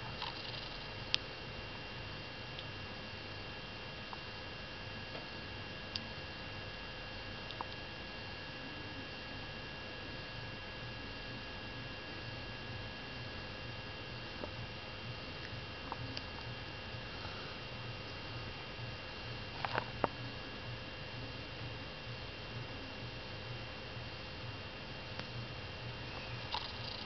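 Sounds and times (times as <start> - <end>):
electrical hum with high whine: 0.0 - 27.0.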